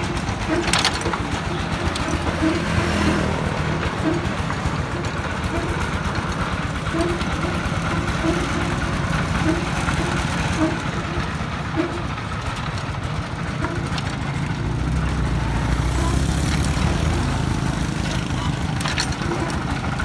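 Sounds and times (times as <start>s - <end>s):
diesel engine pulsing: 0.0s - 20.0s.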